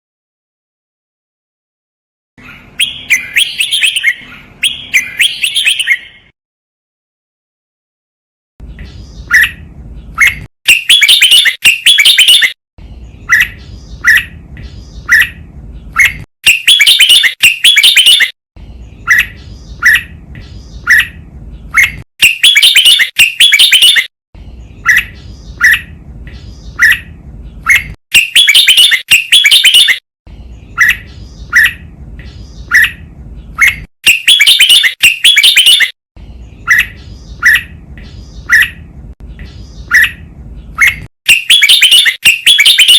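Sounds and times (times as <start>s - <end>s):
bird chirping and warbling: 2.4s - 6.4s, 8.6s - 42.9s.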